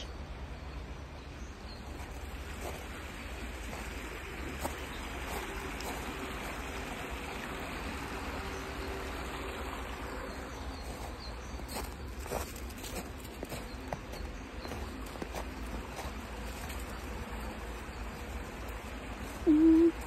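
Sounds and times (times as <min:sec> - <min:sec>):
stream flowing over stones: 0:01.9 - 0:20.0.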